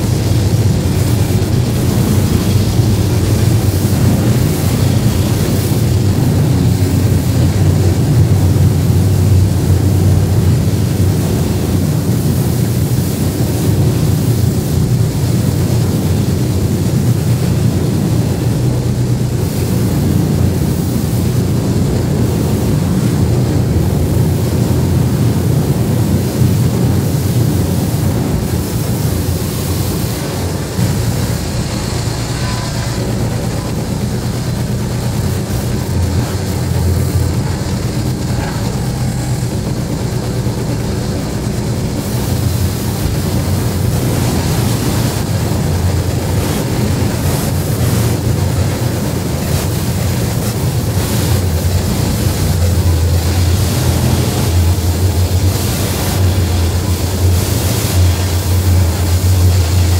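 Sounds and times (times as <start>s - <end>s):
electronic noise music drone: 0.0s - 59.9s.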